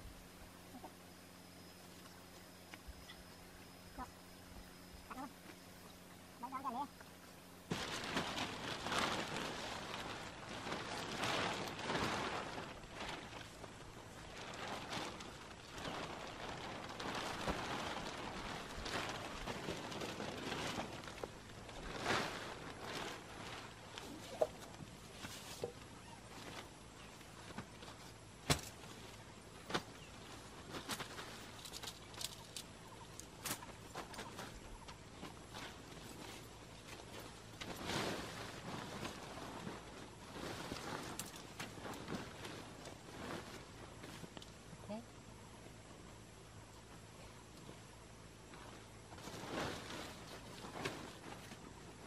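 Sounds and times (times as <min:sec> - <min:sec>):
faint steady hiss: 0:00.0 - 0:52.0
plastic sheeting crinkling: 0:06.4 - 0:45.2, 0:46.9 - 0:52.0.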